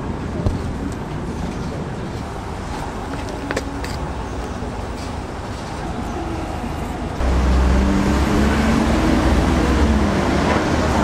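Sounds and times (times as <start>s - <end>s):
steady roadway hum: 0.0s - 11.0s
passing vehicle engine rumble: 0.2s - 11.0s.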